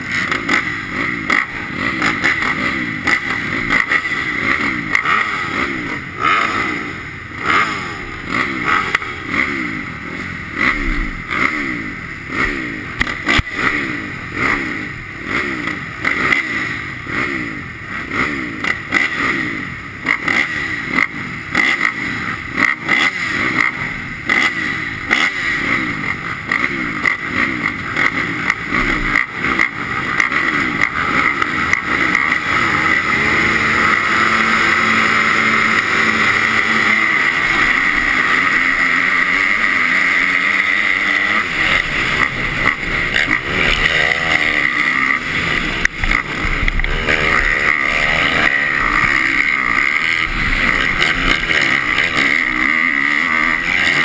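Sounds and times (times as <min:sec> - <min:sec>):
dirt bike accelerating and shifting gears: 0:00.0 - 0:54.0
motocross bikes revving: 0:00.0 - 0:54.0.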